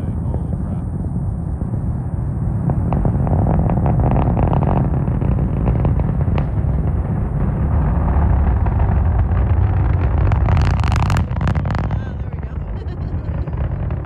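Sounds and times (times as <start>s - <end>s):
rocket engines rumbling: 0.0s - 14.0s.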